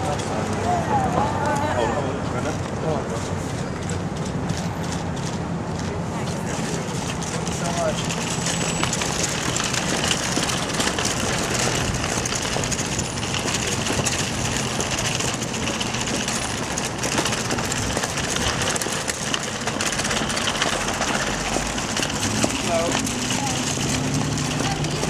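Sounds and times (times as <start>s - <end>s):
city street noise: 0.0s - 25.0s
vehicle engine running low: 0.0s - 25.0s.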